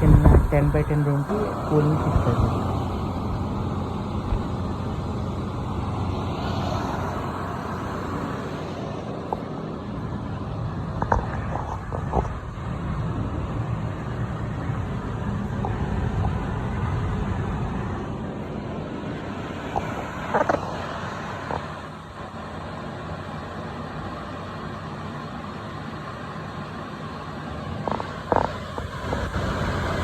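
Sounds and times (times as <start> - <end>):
air cooler fan rushing: 0.0 - 30.0.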